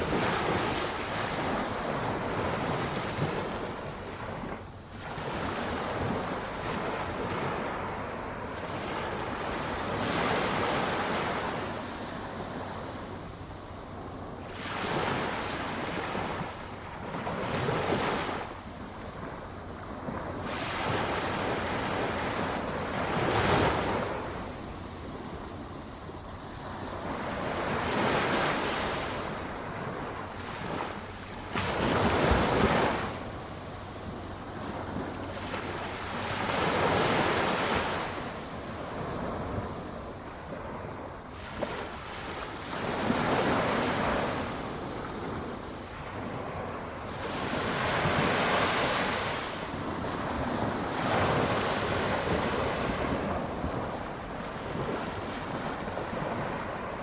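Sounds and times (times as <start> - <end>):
small waves washing on beach: 0.0 - 57.0.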